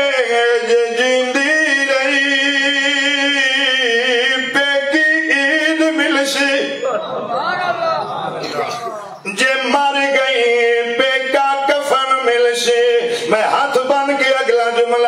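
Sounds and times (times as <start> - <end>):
man singing unaccompanied: 0.0 - 6.8, 9.2 - 15.0.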